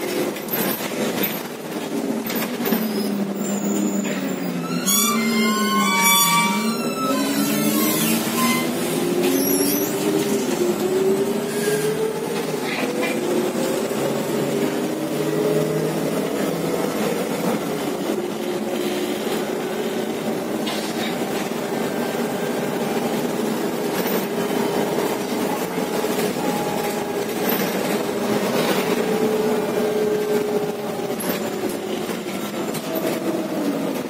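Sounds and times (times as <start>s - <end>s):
bus engine whine: 0.0s - 34.0s.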